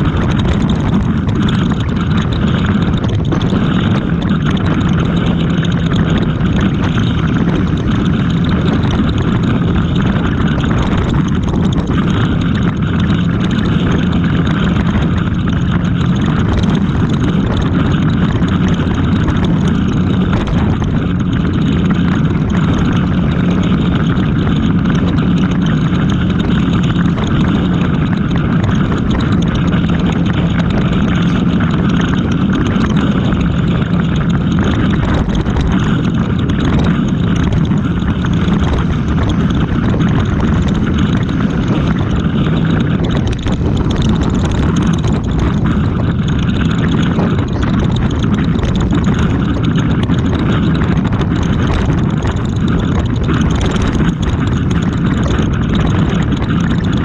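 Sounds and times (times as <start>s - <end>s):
engine drone: 0.0s - 57.0s
road and wind rush: 0.0s - 57.0s.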